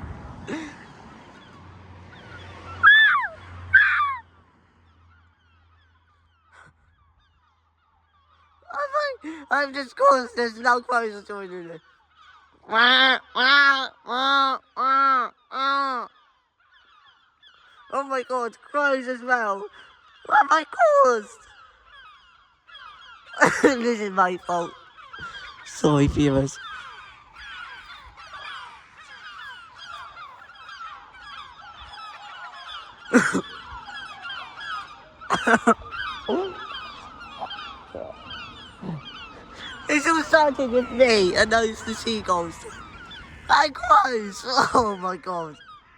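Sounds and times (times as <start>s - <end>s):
crow cawing: 0.0s - 45.9s
faint bird calls: 0.0s - 45.9s.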